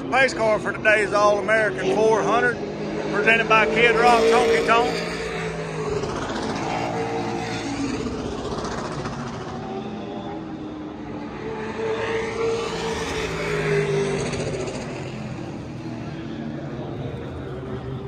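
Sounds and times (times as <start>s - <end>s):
race car engines running: 0.0s - 18.0s.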